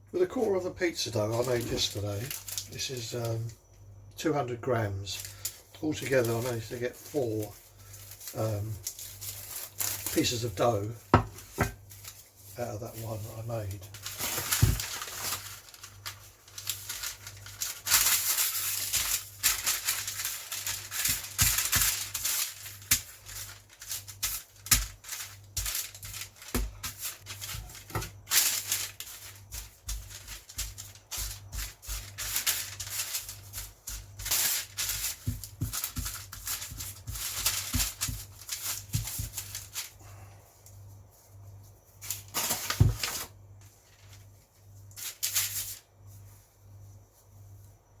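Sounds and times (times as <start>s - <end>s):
crinkly rustling and scraping: 0.1s - 48.0s.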